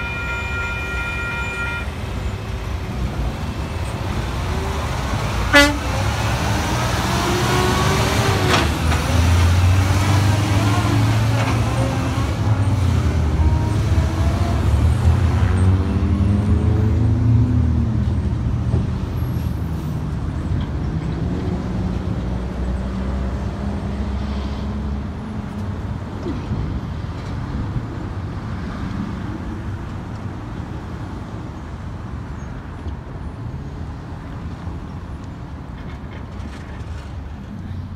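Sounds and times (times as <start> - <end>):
cars and trucks driving past: 0.0 - 37.9.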